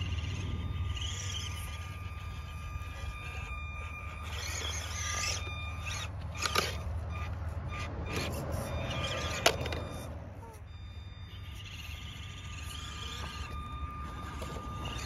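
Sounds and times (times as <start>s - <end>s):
low steady rumble: 0.0s - 15.0s
toy car motor whining: 0.0s - 15.0s.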